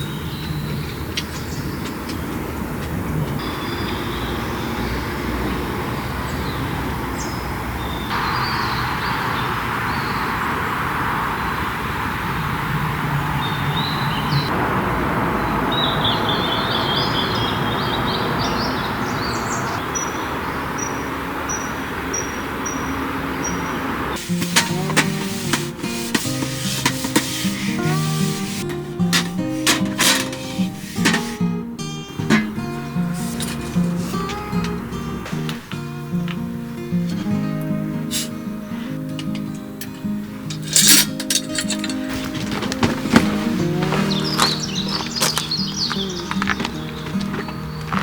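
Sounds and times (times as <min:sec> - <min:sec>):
wild birds chirping: 0:00.0 - 0:48.0.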